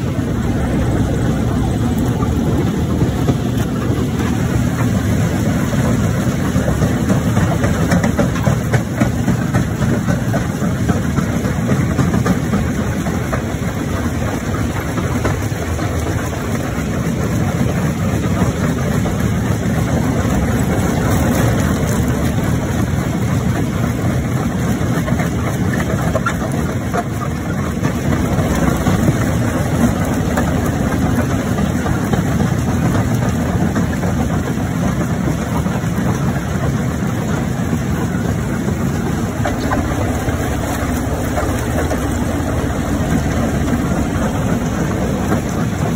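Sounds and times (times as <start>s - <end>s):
rock crusher grinding rumble: 0.0s - 45.9s.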